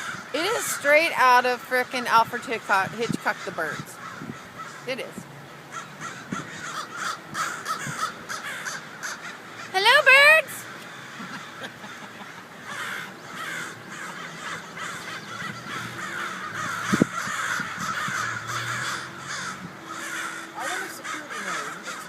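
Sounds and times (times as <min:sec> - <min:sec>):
flock of birds calling: 0:00.0 - 0:22.0.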